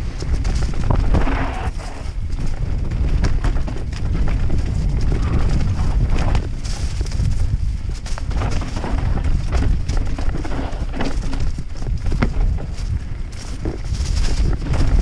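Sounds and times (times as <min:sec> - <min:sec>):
low wind rumble: 0:00.0 - 0:15.0
mountain bike rattling over rocks: 0:00.0 - 0:15.0.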